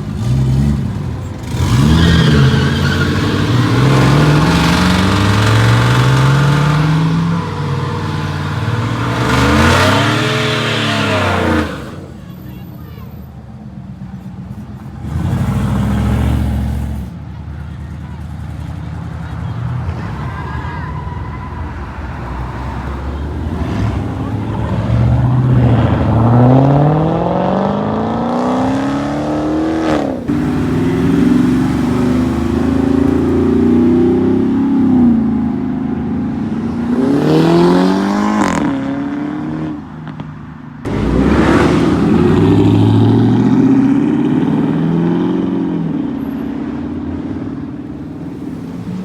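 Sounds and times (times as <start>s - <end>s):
car engines accelerating hard: 0.0s - 49.0s.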